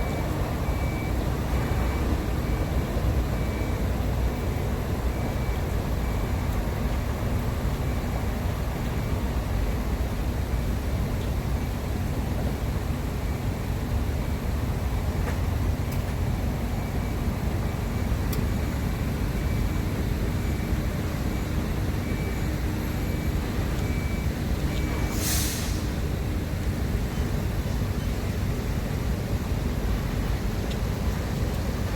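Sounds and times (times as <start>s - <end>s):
heavy vehicle engines: 0.0s - 31.9s
road traffic rumble: 0.0s - 31.9s.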